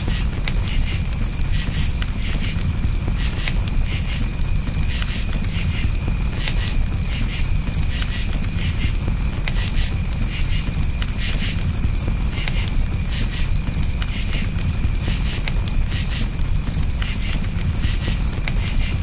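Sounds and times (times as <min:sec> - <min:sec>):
campfire crackling: 0:00.0 - 0:19.0
crickets chirping: 0:00.0 - 0:19.0
steady low rumble: 0:00.0 - 0:19.0.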